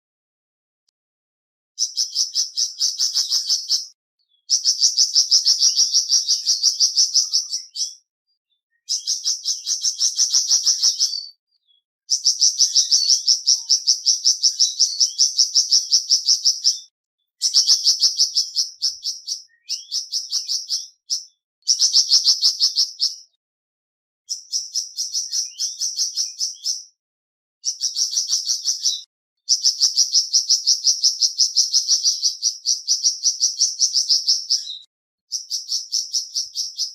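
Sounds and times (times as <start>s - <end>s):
bird chirping rapidly: 1.8s - 8.1s, 8.7s - 23.3s, 24.3s - 26.9s, 27.6s - 36.9s.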